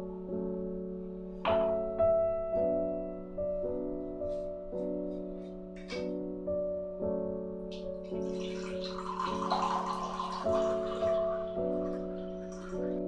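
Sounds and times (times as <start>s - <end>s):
soft solo piano: 0.0s - 13.0s.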